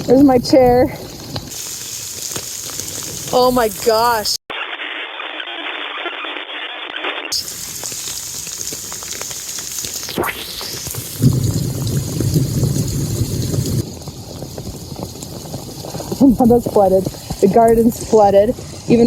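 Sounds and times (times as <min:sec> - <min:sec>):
storm water gushing: 0:00.0 - 0:04.4, 0:07.4 - 0:19.0.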